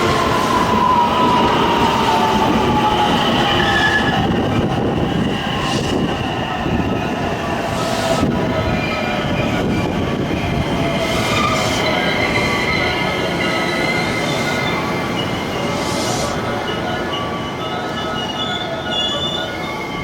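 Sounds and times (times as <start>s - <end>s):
train rolling rumble: 0.0s - 20.0s
train wheels squealing: 0.0s - 20.0s.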